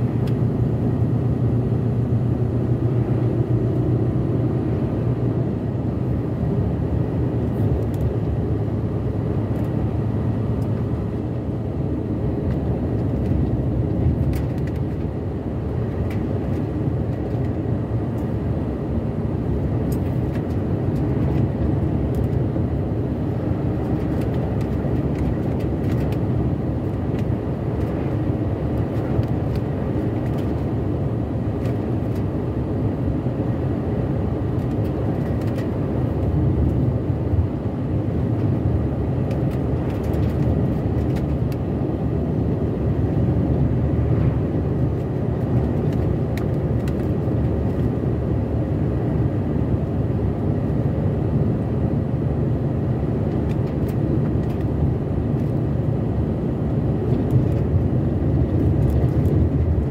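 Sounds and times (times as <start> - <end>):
truck engine and tyre rumble: 0.0 - 59.9.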